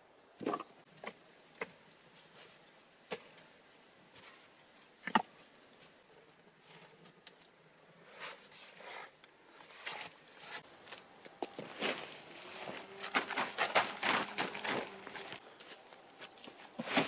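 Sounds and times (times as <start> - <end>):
faint steady hiss: 0.0 - 17.0
wood fire crackling: 0.8 - 17.0.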